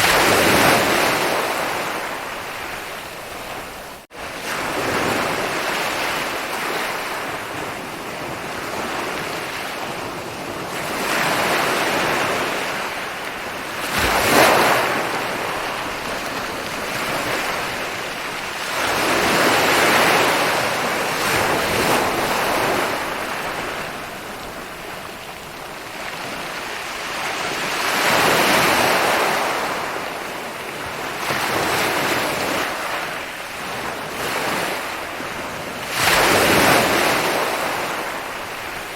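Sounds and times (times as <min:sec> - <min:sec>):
ocean waves rolling onto beach: 0:00.0 - 0:38.9.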